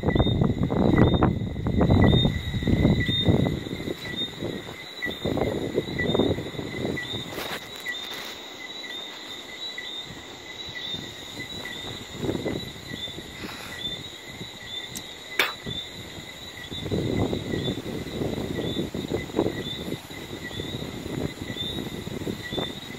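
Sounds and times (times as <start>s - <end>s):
insects chirping: 0.0s - 22.9s.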